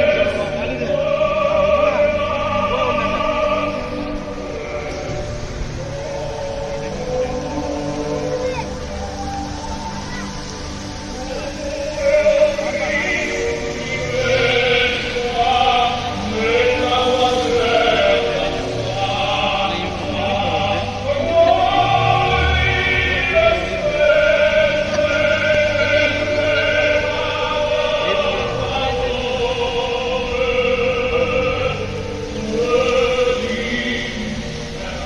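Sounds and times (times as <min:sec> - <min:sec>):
choir singing held notes: 0:00.0 - 0:35.0.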